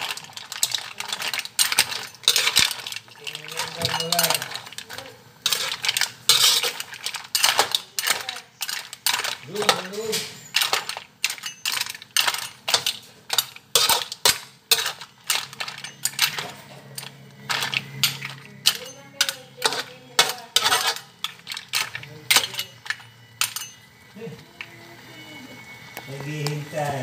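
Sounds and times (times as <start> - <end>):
utensils clinking against dishes: 0.0 - 27.0.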